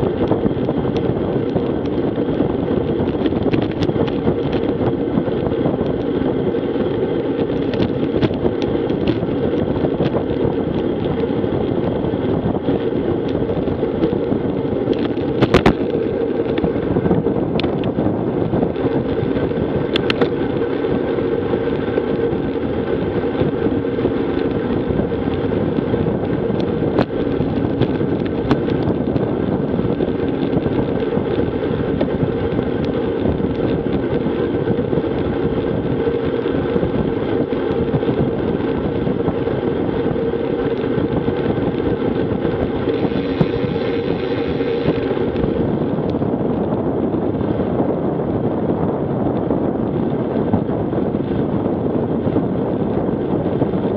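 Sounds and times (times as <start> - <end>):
bicycle tyre hum: 0.0 - 53.9
wind rushing over microphone: 0.0 - 53.9.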